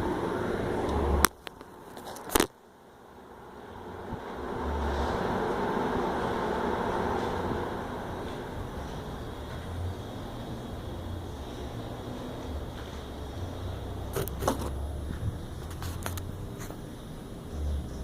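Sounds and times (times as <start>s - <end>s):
ceiling fan whirring: 0.0s - 18.0s.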